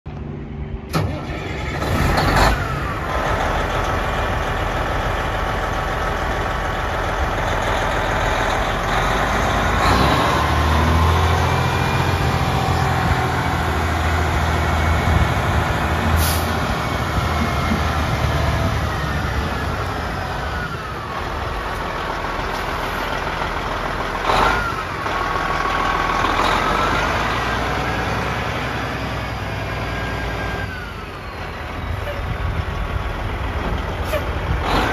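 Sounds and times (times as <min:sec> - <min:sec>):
truck diesel engine running: 0:00.1 - 0:34.9.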